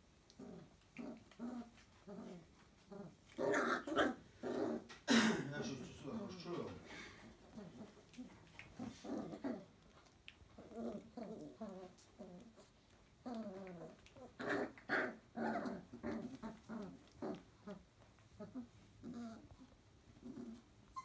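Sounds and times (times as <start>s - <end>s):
puppies growling and whining: 0.3s - 5.0s, 7.2s - 21.0s.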